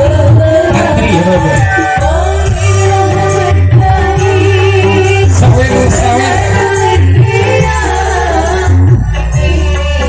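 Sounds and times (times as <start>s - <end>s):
live band music with heavy bass: 0.0s - 10.0s
person singing: 0.0s - 10.0s.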